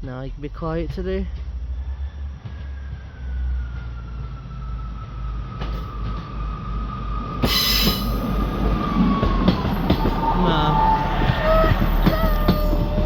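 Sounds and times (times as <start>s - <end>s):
diesel train rumble: 0.0s - 13.0s
train wheel squeal: 1.4s - 13.0s.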